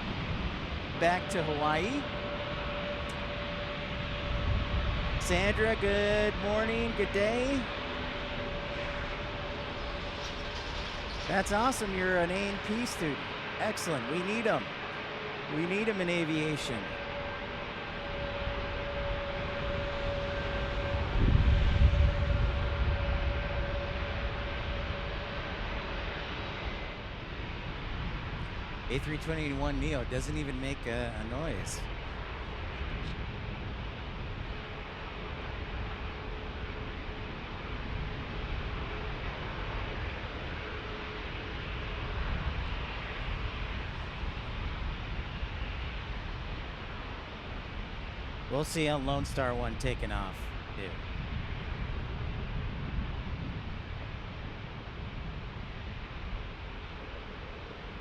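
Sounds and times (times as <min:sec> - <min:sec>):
jet airliner passing: 0:00.0 - 0:58.0.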